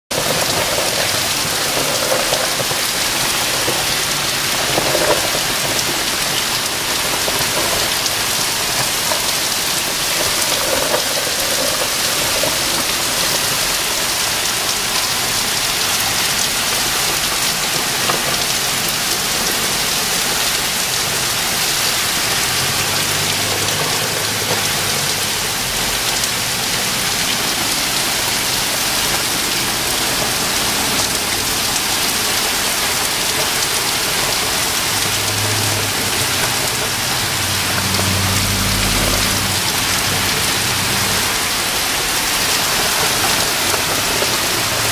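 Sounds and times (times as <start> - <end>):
heavy rain pounding on pavement: 0.0 - 44.9.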